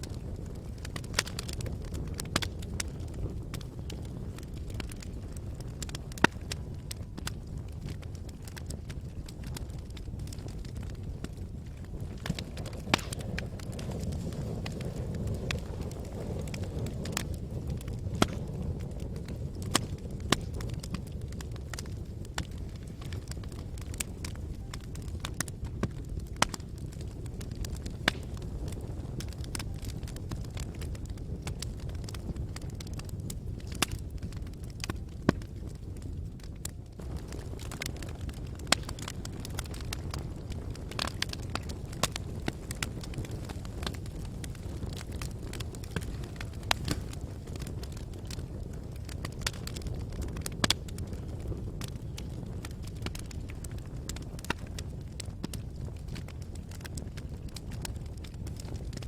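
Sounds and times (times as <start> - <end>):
fire rumbling: 0.0 - 59.0
logs crackling and popping: 0.0 - 59.0.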